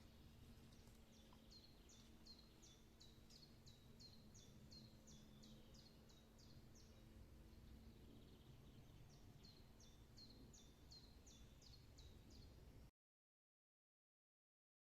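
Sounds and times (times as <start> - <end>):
faint low hum: 0.0 - 12.9.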